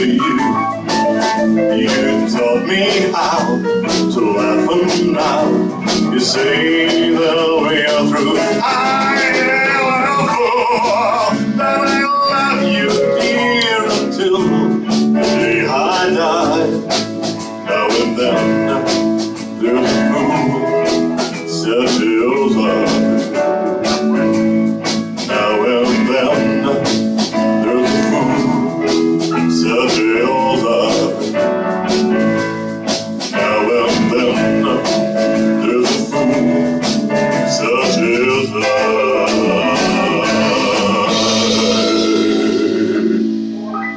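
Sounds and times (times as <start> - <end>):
steady drum beat: 0.0 - 43.7
guitar: 0.0 - 43.9
live band playing rock ballad: 0.0 - 43.9
person singing: 0.0 - 43.9.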